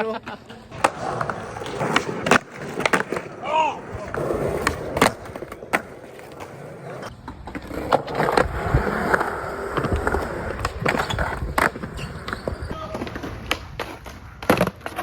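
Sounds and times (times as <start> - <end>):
skateboard clacking on ground: 0.0 - 15.0
skateboard rolling on concrete: 0.0 - 15.0.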